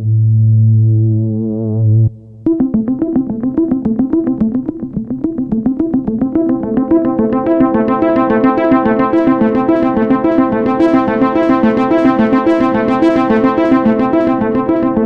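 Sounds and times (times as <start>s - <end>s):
low sustained synthesizer note: 0.0s - 15.0s.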